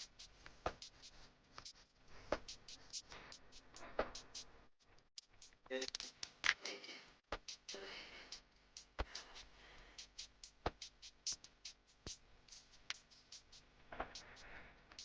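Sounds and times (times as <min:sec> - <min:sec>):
drum-machine beat: 0:00.0 - 0:04.6, 0:05.2 - 0:15.0.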